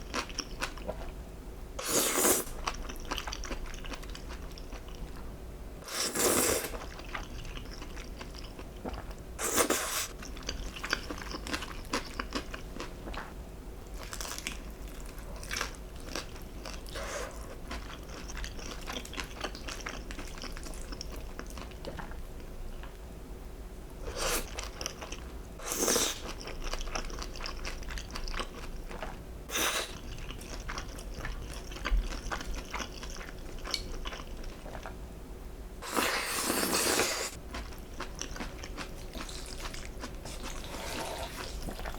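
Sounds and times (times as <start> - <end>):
person chewing: 1.8 - 5.1, 5.8 - 13.3, 14.0 - 22.2, 24.1 - 34.9, 35.8 - 41.9.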